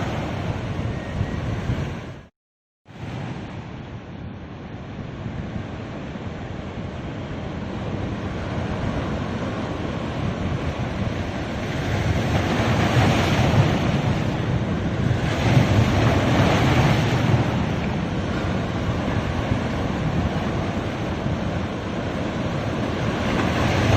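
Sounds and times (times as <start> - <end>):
ocean waves breaking on beach: 2.9 - 23.9.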